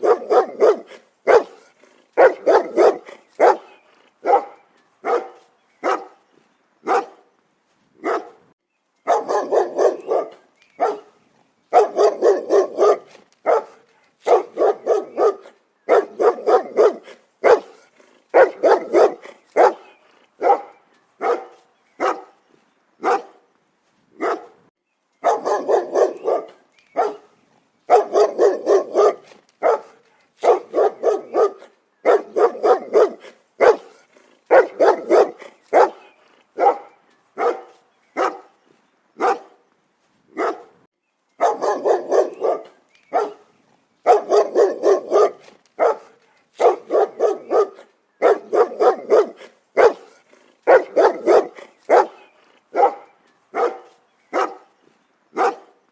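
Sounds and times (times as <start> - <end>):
dog barking loudly: 0.0 - 6.2, 6.8 - 7.3, 8.0 - 8.4, 9.0 - 22.4, 23.0 - 23.4, 24.2 - 38.6, 39.2 - 39.6, 40.3 - 54.7, 55.3 - 55.9.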